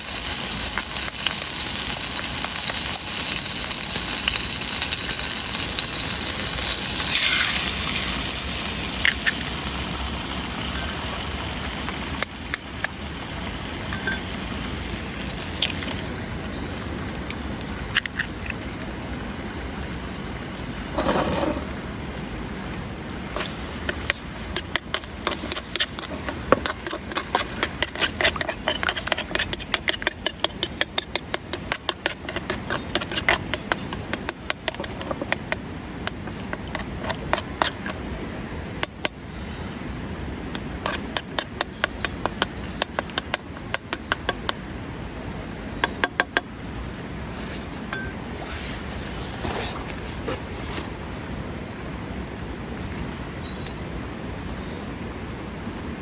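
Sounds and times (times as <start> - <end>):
steady rain hiss: 0.0 - 43.6, 44.2 - 56.0.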